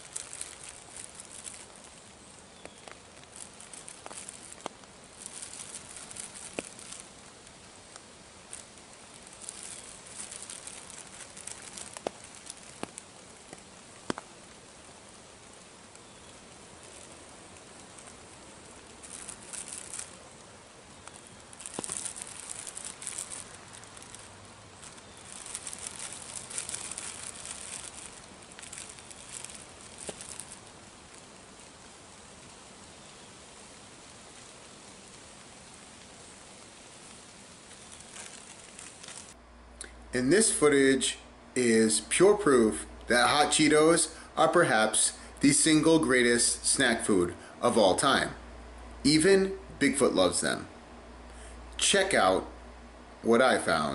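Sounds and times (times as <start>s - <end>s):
plastic bag crackling: 0.0s - 39.4s, 40.1s - 48.4s
outdoor hiss: 0.0s - 53.9s.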